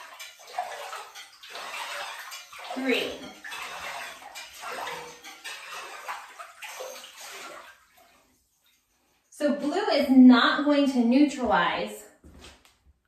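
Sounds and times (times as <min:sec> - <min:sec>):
water sloshing in bathtub: 0:00.0 - 0:12.8.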